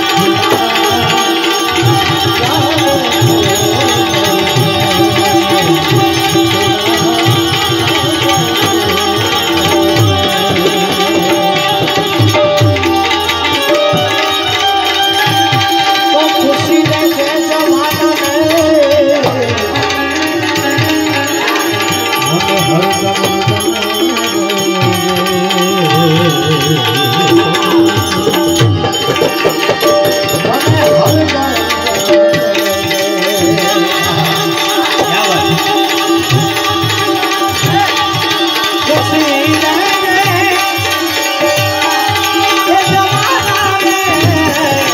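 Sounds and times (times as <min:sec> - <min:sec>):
tabla rhythm: 0:00.0 - 0:44.9.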